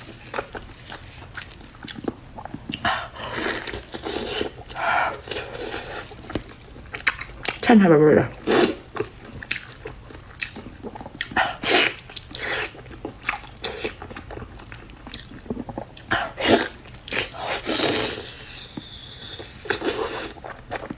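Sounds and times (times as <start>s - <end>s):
person chewing meat: 0.0s - 7.6s, 8.3s - 20.9s.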